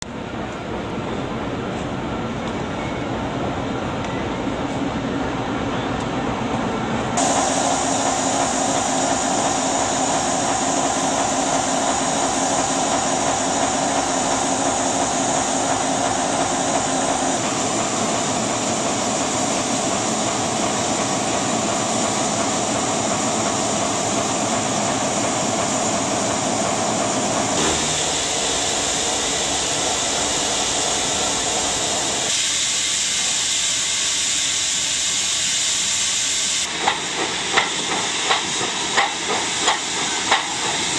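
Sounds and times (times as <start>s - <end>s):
steam locomotive hissing steam: 7.2s - 40.9s.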